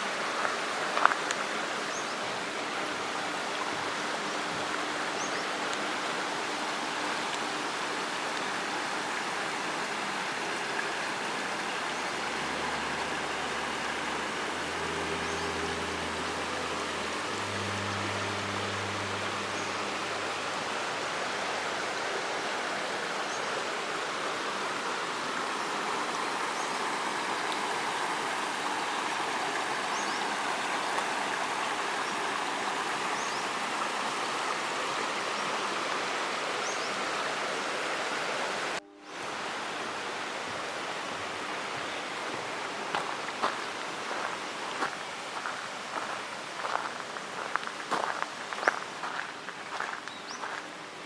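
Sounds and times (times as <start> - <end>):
stream flowing: 0.0 - 51.0.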